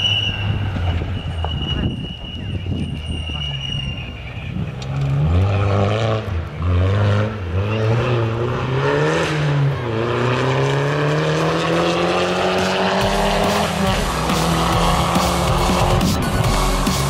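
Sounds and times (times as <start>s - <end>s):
rally car engine revving: 2.6s - 17.0s.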